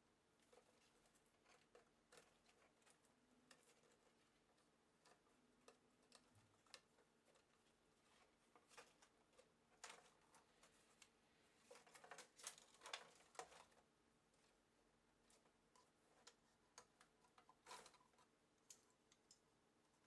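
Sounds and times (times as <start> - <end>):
small tools clicking and scraping: 0.4 - 13.8, 15.3 - 19.4.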